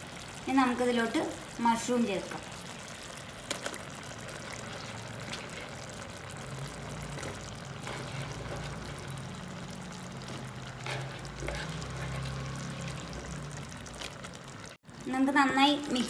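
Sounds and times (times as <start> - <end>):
gravy bubbling: 0.0 - 16.0.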